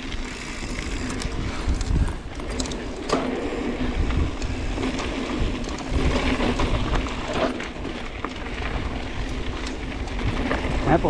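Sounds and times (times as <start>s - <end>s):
bike clicks and rattles: 0.0s - 11.0s
tyres rolling on gravel: 0.0s - 11.0s
wind rumble on microphone: 0.8s - 11.0s.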